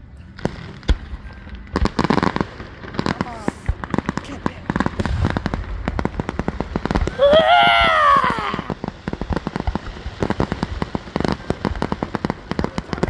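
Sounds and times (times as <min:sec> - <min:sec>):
fireworks crackling: 0:00.4 - 0:13.0.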